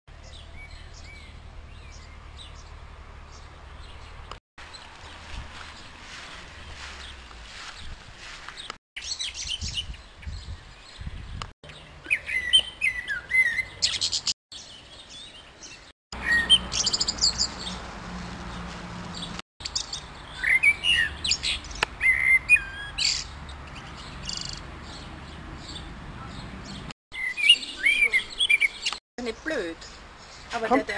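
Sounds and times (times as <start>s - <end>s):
songbirds chirping and singing: 0.1s - 30.9s.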